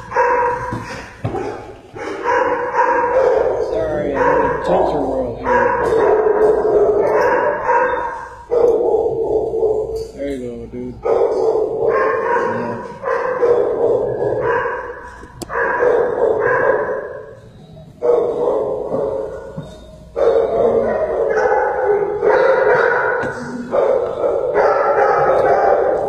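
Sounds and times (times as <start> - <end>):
dogs barking: 0.0 - 10.2, 10.9 - 26.0.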